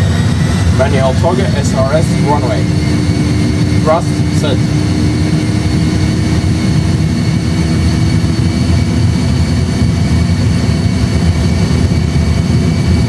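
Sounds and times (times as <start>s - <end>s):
high jet whine: 0.0s - 13.0s
jet engine low rumble: 0.0s - 13.0s.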